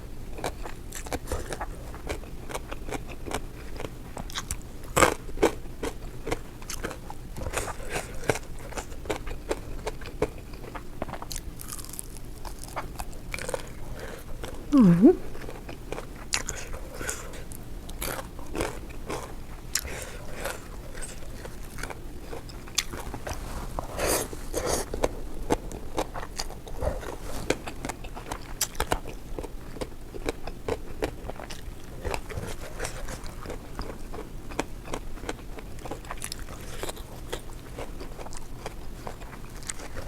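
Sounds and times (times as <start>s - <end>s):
faint low hum: 0.0s - 40.0s
person crunching and chewing food: 0.3s - 40.0s.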